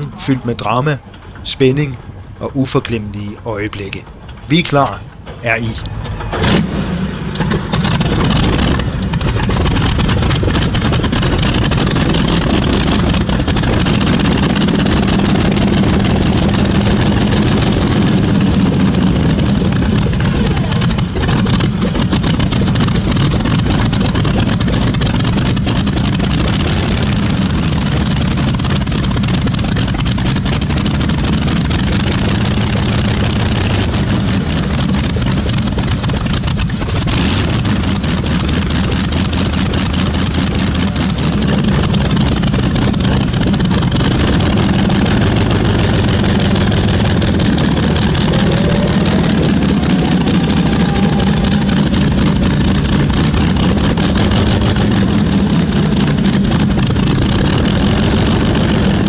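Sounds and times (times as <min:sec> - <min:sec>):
radial engine running: 0:00.0 - 0:59.0.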